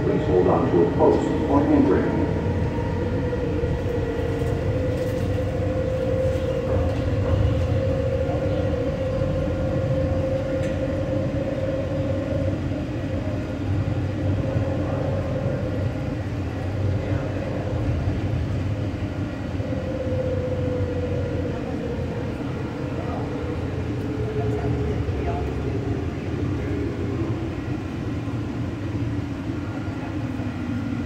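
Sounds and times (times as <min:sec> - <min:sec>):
people mover car rumbling: 0:00.0 - 0:31.0
steady whine: 0:00.0 - 0:31.0.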